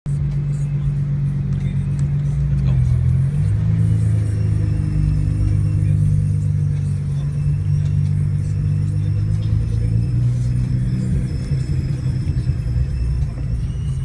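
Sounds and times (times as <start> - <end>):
car engine drone: 0.1 - 14.0
high-pitched brake squeal: 2.4 - 14.0.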